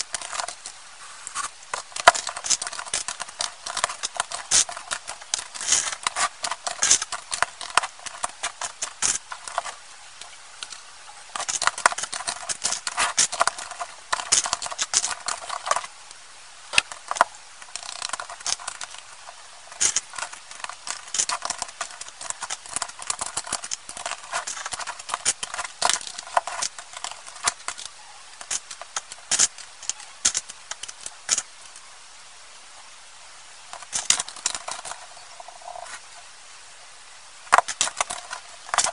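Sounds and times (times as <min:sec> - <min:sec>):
plastic bricks clicking and clattering: 0:00.0 - 0:15.9, 0:16.7 - 0:31.6, 0:33.7 - 0:35.9, 0:37.5 - 0:38.9.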